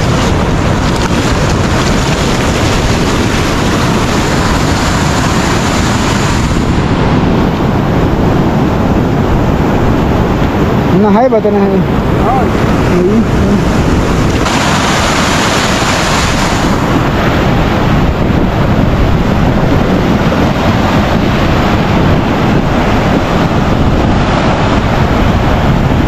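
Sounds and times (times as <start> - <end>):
ocean surf breaking: 0.0 - 26.0
wind rumbling on microphone: 0.0 - 26.0.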